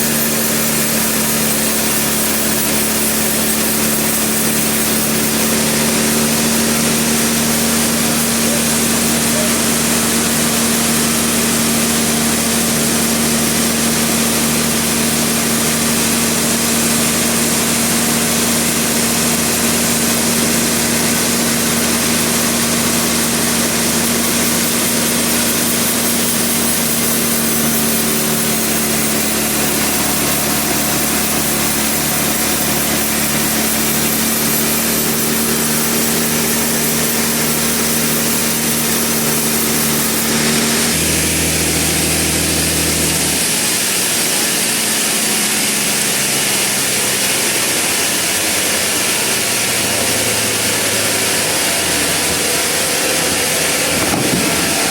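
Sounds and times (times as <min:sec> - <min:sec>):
sawmill machinery drone: 0:00.0 - 0:54.9.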